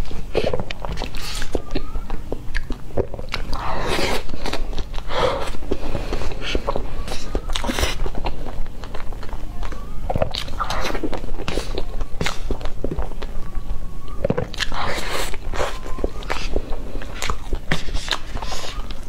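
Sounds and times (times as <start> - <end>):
mouth chewing and smacking: 0.0 - 19.0.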